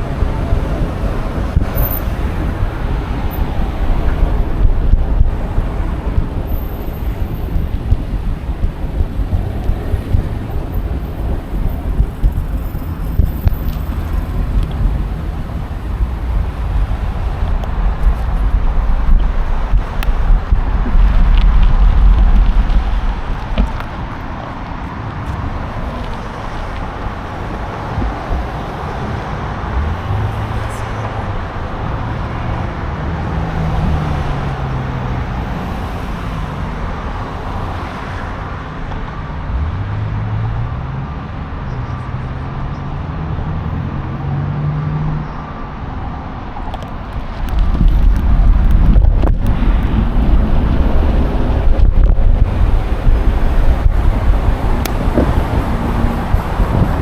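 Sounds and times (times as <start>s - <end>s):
city street traffic: 0.0s - 57.0s
vehicles passing: 0.0s - 57.0s
wind rumble on microphone: 0.0s - 57.0s.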